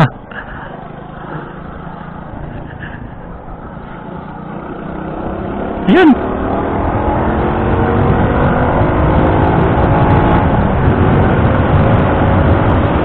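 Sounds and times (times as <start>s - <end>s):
motorcycle engine accelerating: 0.0s - 13.0s
wind and road noise: 0.0s - 13.0s.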